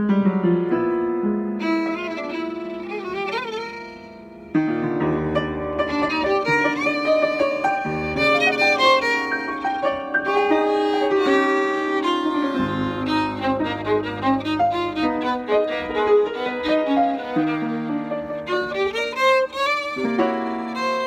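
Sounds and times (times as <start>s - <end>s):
piano chords: 0.0s - 21.0s
violin melody: 1.4s - 21.0s.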